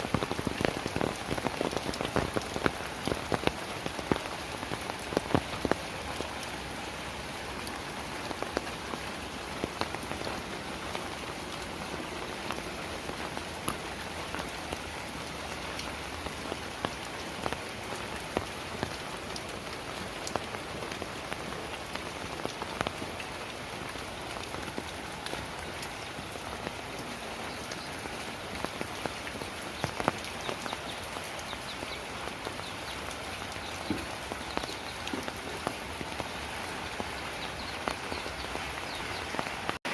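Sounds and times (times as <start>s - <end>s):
heavy rain falling: 0.0s - 39.9s
sharp raindrop impacts: 0.0s - 39.9s.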